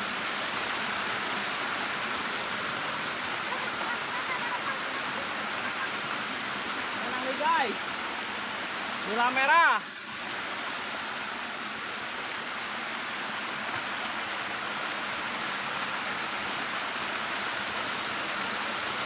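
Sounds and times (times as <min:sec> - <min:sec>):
river water rushing over weir: 0:00.0 - 0:19.0.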